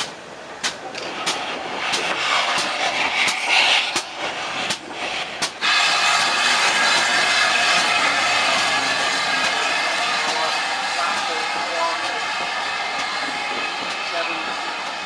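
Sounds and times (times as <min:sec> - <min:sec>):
steady hiss: 0:00.0 - 0:15.0
train clicking over rail joints: 0:00.0 - 0:15.0.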